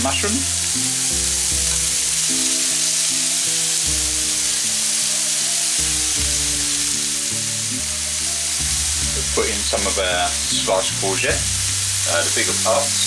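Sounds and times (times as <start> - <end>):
background music sustained notes: 0.0 - 13.0
food sizzling in a pan: 0.0 - 13.0.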